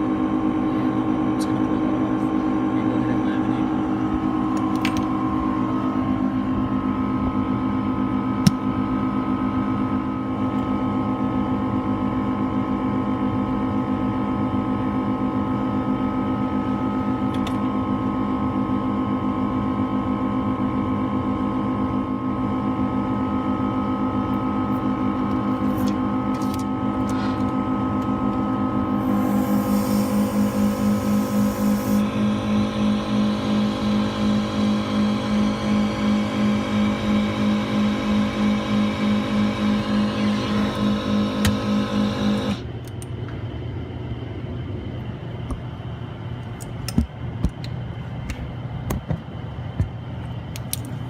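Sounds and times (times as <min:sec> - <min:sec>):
electric machine hum: 0:00.0 - 0:46.6.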